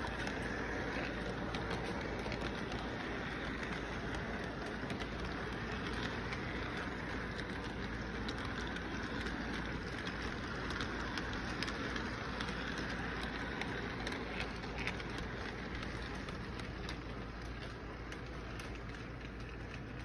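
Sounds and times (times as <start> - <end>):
toy train rolling on track: 0.0 - 20.0
wheels clicking on rails: 0.0 - 20.0.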